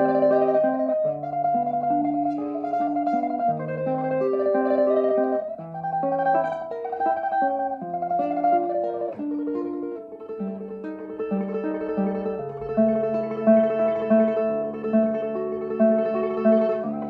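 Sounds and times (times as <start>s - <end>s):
classical guitar tremolo melody: 0.0s - 17.0s.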